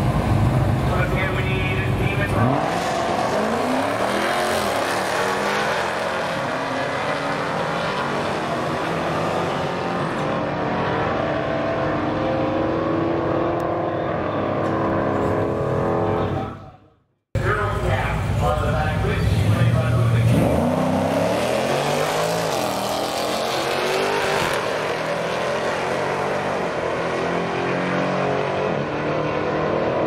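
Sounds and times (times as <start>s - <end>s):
drag car engine accelerating: 0.0s - 16.5s, 17.4s - 30.0s.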